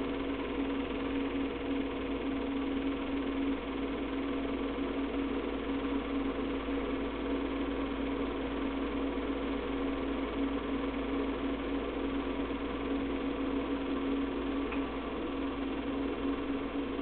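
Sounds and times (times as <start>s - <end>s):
movie projector running: 0.0s - 17.0s.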